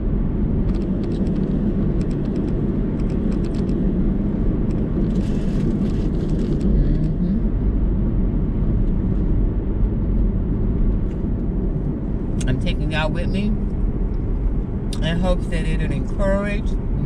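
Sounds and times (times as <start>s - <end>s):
car cabin road rumble: 0.0s - 17.0s.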